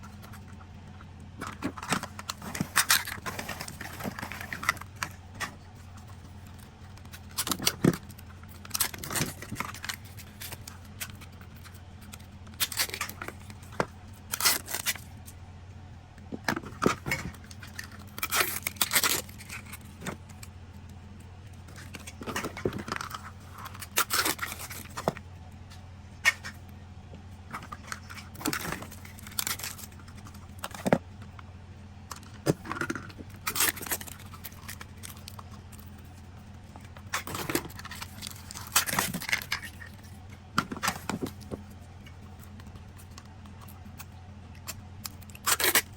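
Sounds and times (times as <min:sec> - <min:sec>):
plastic clicking and crinkling: 0:00.1 - 0:15.4, 0:16.2 - 0:31.5, 0:32.1 - 0:45.9.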